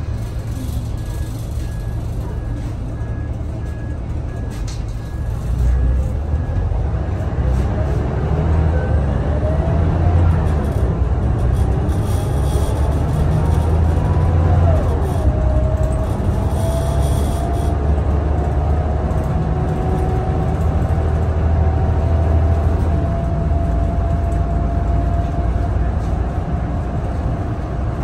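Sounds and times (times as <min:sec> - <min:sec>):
bus engine drone and whine: 0:00.0 - 0:28.0.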